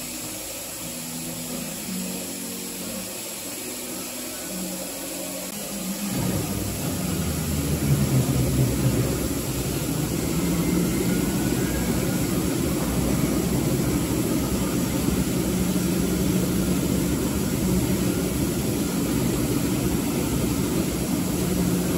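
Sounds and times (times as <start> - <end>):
lathe motor humming: 0.0 - 21.9.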